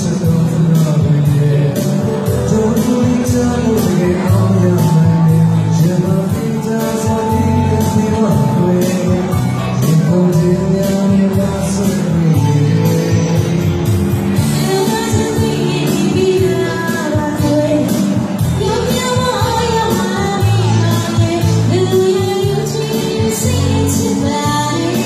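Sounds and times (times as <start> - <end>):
man and woman singing: 0.0 - 13.7, 14.4 - 25.0
live band playing: 0.0 - 25.0.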